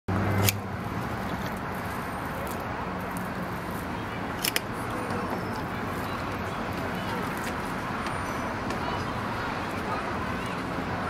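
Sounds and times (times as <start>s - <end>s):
outdoor background noise: 0.1s - 11.0s.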